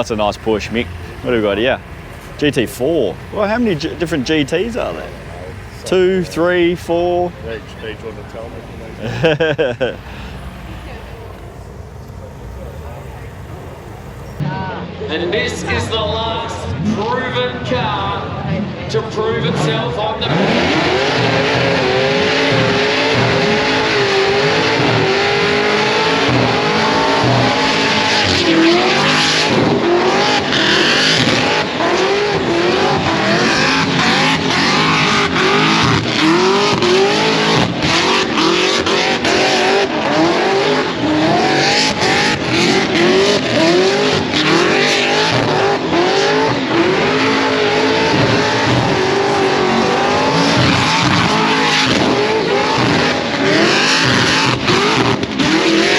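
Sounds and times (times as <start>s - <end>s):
car engine revving hard: 0.0s - 14.4s, 19.3s - 55.9s.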